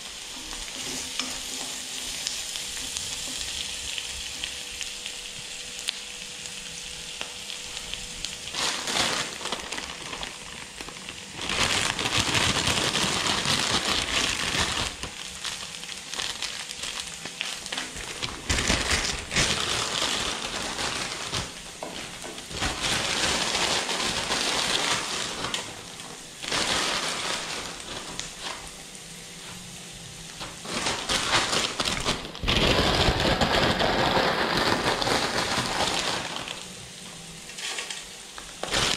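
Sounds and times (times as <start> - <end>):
stir-fry sizzling in wok: 0.0 - 38.9.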